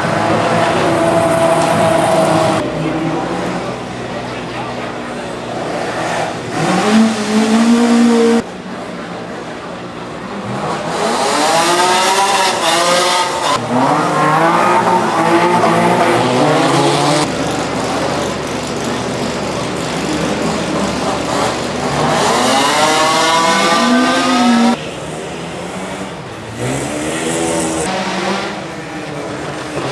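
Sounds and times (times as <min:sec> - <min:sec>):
rally car engines accelerating: 0:00.0 - 0:29.9.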